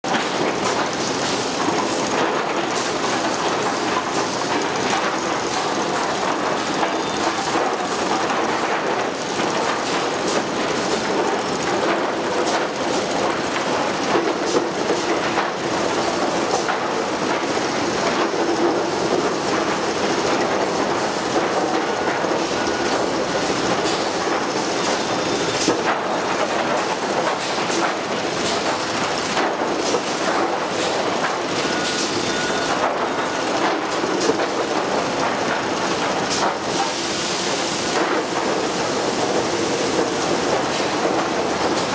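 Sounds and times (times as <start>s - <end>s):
steady mechanical noise: 0.0s - 41.9s.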